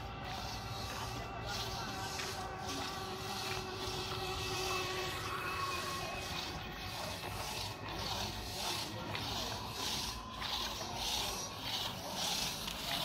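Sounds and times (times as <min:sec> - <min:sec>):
hand saw cutting log: 0:00.0 - 0:13.0.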